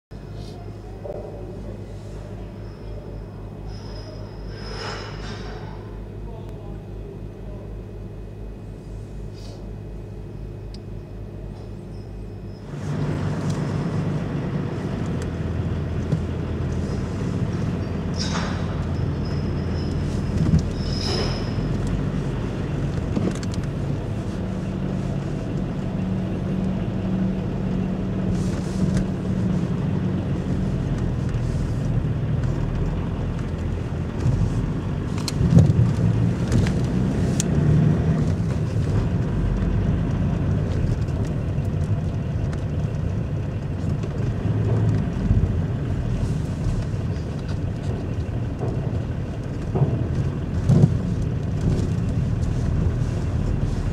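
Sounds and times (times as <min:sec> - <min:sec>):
car engine and tyre rumble: 0:07.8 - 0:53.9.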